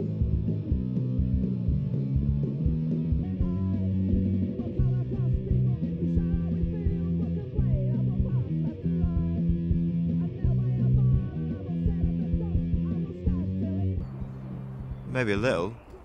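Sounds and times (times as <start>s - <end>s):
loud rock music: 0.0s - 13.8s.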